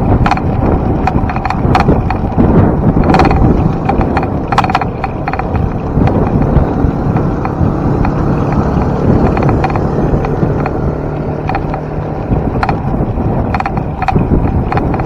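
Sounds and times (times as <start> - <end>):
low engine-like hum: 0.0 - 15.0
road rumble: 0.0 - 15.0
wind on microphone: 0.0 - 15.0.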